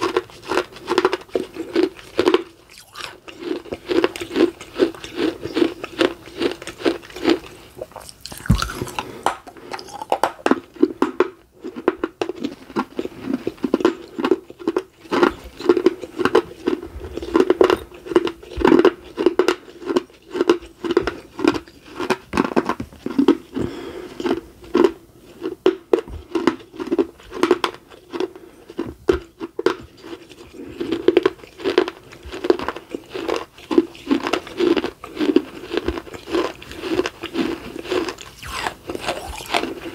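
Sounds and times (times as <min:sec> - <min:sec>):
chewing crunchy clay: 0:00.0 - 0:39.9.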